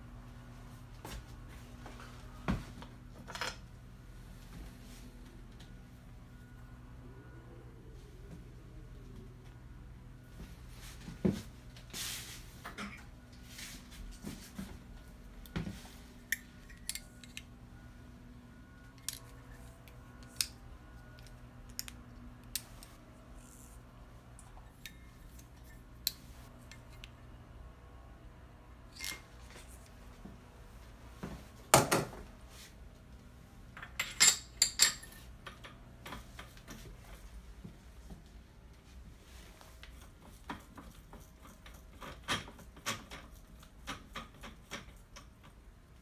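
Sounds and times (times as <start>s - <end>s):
faint low hum: 0.0s - 43.8s.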